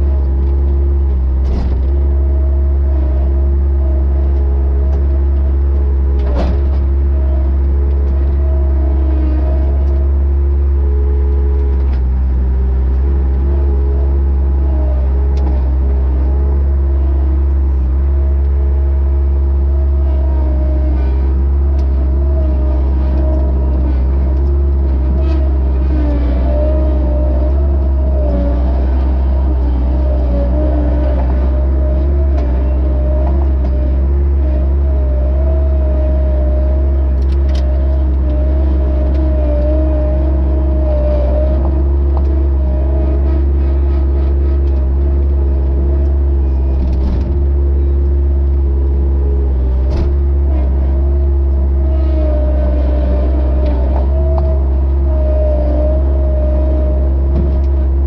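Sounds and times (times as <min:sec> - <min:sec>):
hydraulic whine: 0:00.0 - 0:58.0
loader engine running: 0:00.0 - 0:58.0.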